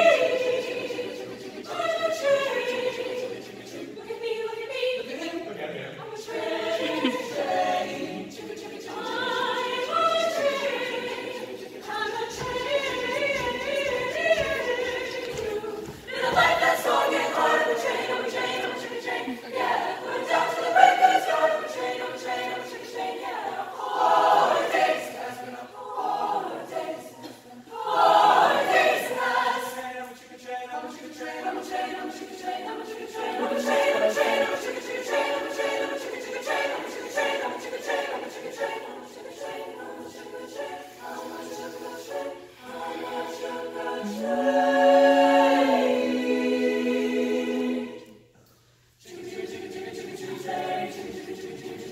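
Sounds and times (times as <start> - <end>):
choir singing a cappella: 0.0 - 51.9.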